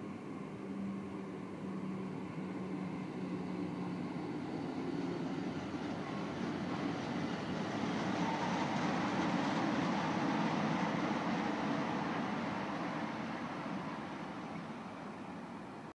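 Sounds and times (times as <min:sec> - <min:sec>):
locomotive wheels rumbling on rails: 0:00.3 - 0:15.8.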